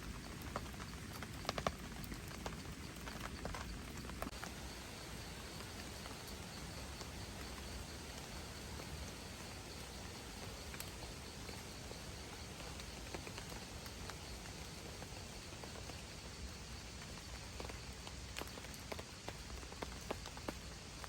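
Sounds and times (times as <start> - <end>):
rain on a tent: 0.0 - 21.0.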